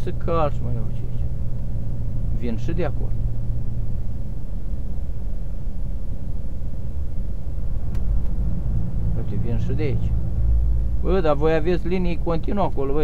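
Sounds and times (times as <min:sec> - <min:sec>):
faint steady hum: 0:00.0 - 0:13.0
truck engine rumble: 0:00.0 - 0:13.0.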